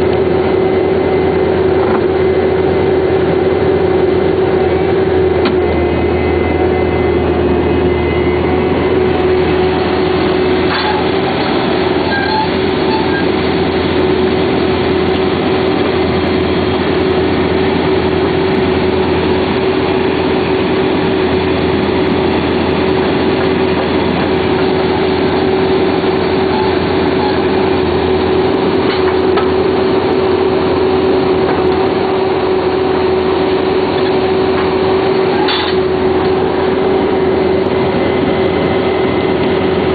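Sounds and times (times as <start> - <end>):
diesel engine low drone: 0.0 - 39.9
hydraulic whine: 0.0 - 39.9.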